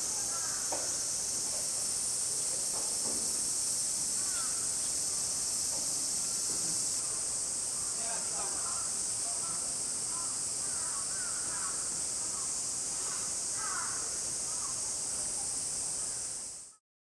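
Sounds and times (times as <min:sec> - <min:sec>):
cicadas chorus: 0:00.0 - 0:16.8.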